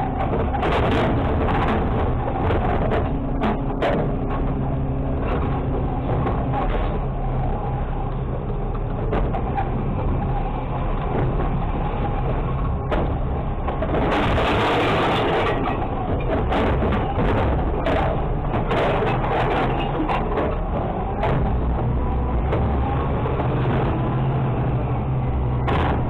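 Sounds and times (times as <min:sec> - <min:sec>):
knocks and clanks: 0:00.0 - 0:07.5, 0:08.1 - 0:26.0
garbage truck engine and hydraulics: 0:00.0 - 0:26.0.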